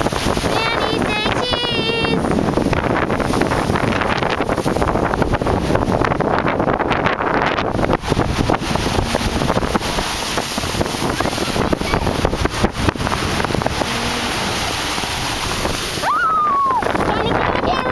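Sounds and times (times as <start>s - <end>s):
waves breaking against rocks: 0.0s - 17.9s
wind buffeting microphone: 0.0s - 17.9s.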